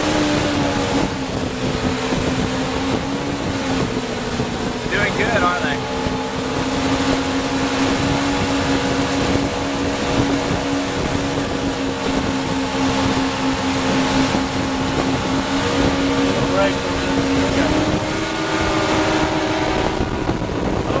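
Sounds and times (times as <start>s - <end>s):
motorboat engine droning: 0.0s - 21.0s
water rushing: 0.0s - 21.0s
wind rushing: 0.0s - 21.0s.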